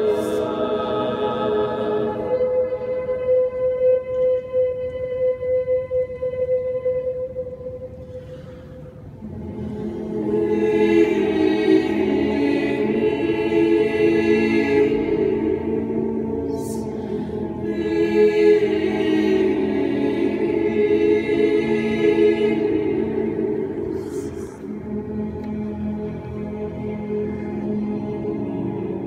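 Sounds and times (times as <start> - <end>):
mixed choir singing a cappella: 0.0 - 3.8, 9.2 - 29.0.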